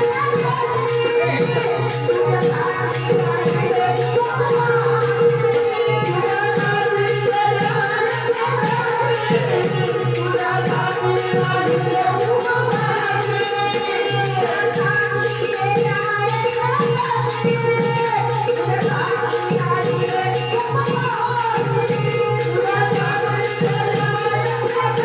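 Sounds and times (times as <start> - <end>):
group singing devotional song: 0.0 - 25.0
jingling percussion: 0.0 - 25.0.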